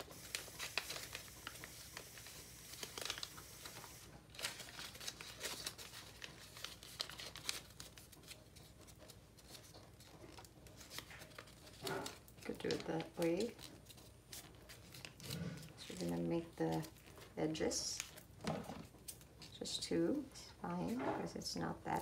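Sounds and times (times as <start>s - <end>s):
paper rustling and crinkling: 0.0s - 17.4s, 18.0s - 21.0s.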